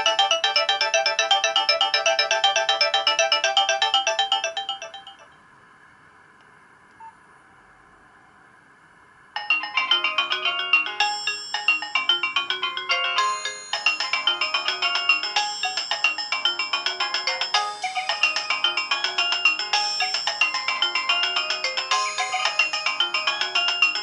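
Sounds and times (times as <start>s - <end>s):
polyphonic ringtone melody: 0.0s - 5.3s, 9.4s - 24.0s.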